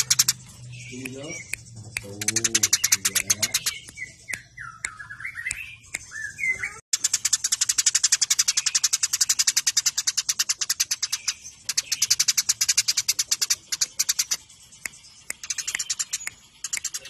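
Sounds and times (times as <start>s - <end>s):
sparrows chattering: 0.0s - 17.0s.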